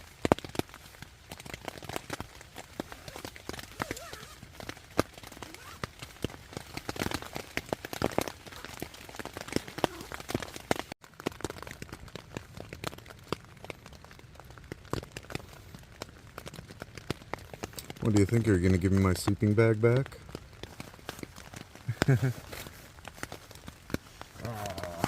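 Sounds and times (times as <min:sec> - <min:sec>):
rain drops tapping on tent: 0:00.0 - 0:25.0
steady rain hiss: 0:00.0 - 0:25.0.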